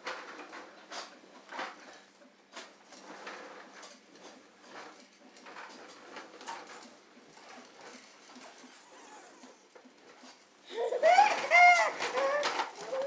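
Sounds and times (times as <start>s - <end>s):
toy walker rattling on vinyl floor: 0.0s - 13.0s.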